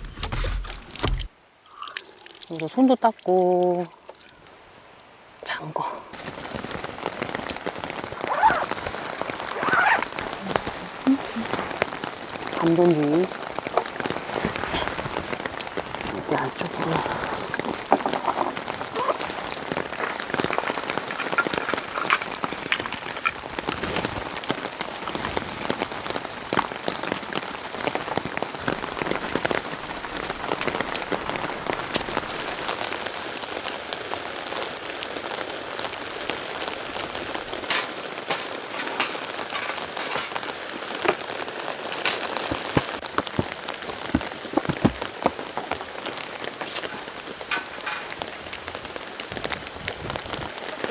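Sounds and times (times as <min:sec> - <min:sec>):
heavy rain falling: 0:02.6 - 0:50.9
raindrops tapping on a surface: 0:06.2 - 0:50.9.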